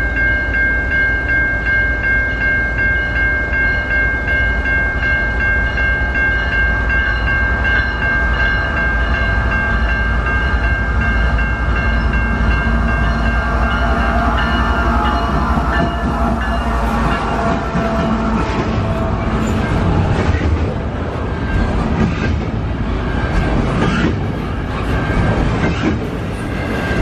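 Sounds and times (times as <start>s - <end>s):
crossing warning bell ringing: 0.0s - 27.0s
diesel locomotive engine rumble: 0.0s - 27.0s
train wheel and rail noise: 0.0s - 27.0s.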